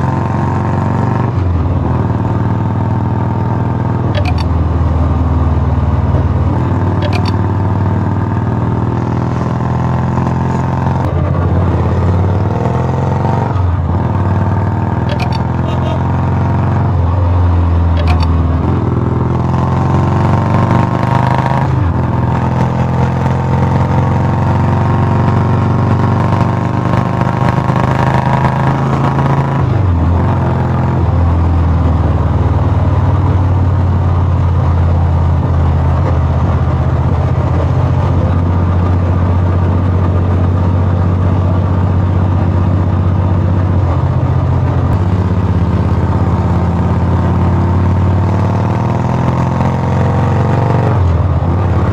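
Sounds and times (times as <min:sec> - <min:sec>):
motorcycle engine with loud exhaust: 0:00.0 - 0:51.9.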